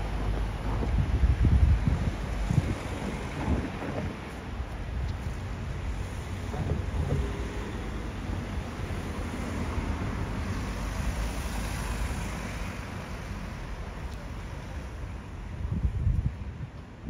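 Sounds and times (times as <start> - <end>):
cars driving past: 0.0 - 15.6.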